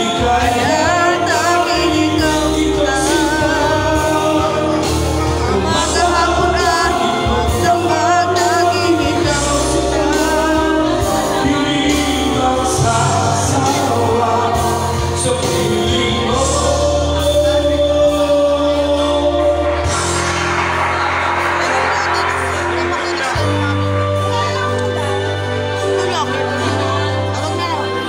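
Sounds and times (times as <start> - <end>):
amplified backing music: 0.0 - 28.0
person singing with vibrato: 0.0 - 28.0.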